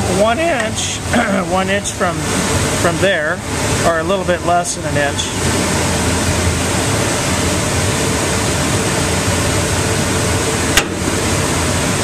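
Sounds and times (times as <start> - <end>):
shop equipment humming: 0.0 - 12.0.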